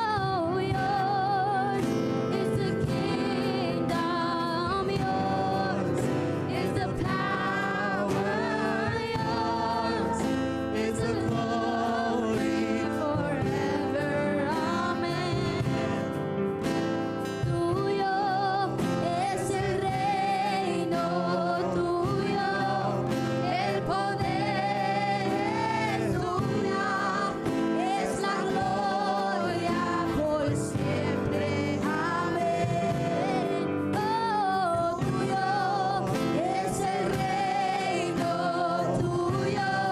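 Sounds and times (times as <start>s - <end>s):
instrumental accompaniment: 0.0s - 39.9s
voices singing: 0.0s - 39.9s.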